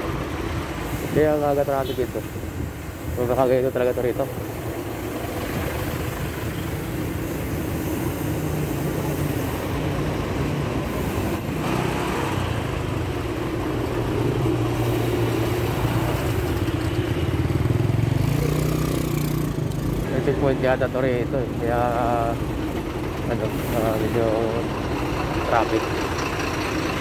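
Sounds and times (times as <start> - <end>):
road and wind noise: 0.0 - 27.0
truck engine rumble: 0.0 - 27.0.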